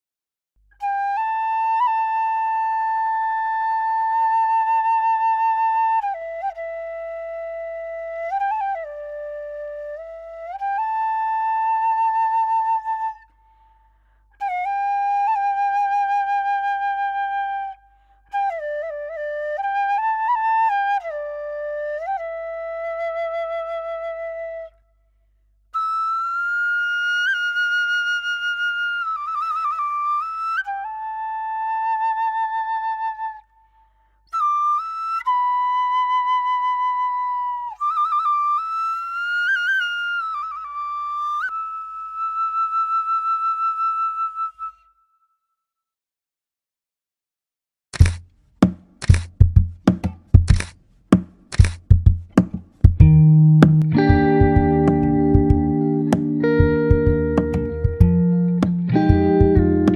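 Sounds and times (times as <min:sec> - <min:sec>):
bamboo flute melody: 0:00.7 - 0:13.8, 0:14.4 - 0:25.0, 0:25.8 - 0:45.3, 0:51.5 - 0:59.9.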